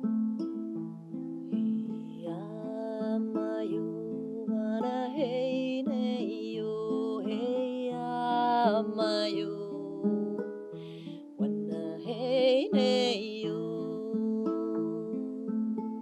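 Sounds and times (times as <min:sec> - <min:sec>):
acoustic guitar picked slowly: 0:00.0 - 0:16.0
woman singing wordless melody: 0:01.4 - 0:16.0.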